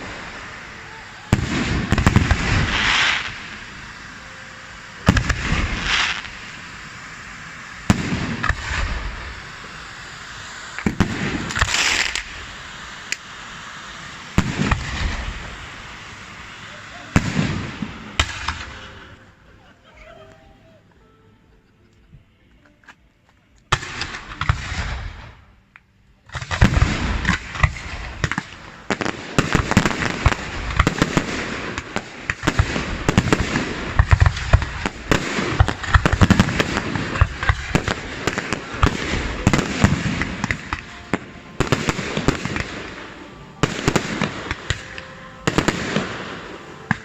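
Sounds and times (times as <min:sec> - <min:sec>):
fireworks bangs and crackling: 0:00.0 - 0:19.4, 0:23.7 - 0:25.6, 0:26.3 - 0:47.0.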